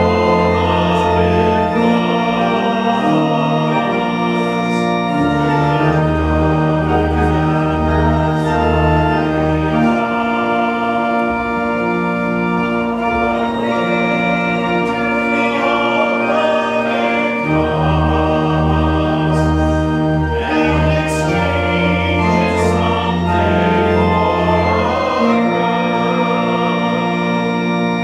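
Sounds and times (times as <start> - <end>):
congregation singing a hymn: 0.0 - 28.0
organ sustained chords: 0.0 - 28.0.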